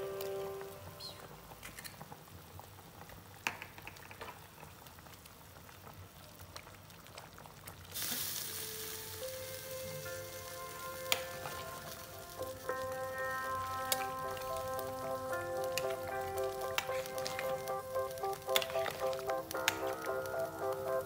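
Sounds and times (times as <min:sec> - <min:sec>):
soup boiling with bubbling hiss: 0:00.0 - 0:21.0.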